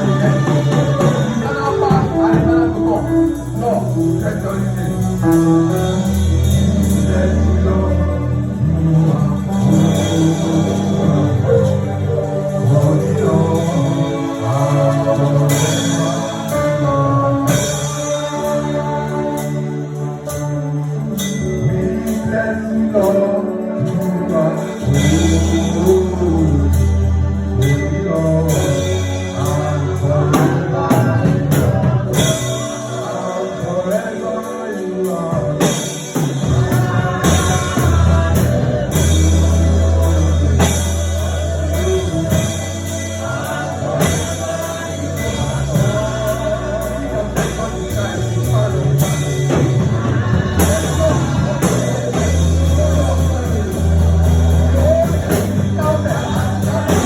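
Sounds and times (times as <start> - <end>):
band playing: 0.0 - 57.0
voices singing: 0.0 - 57.0.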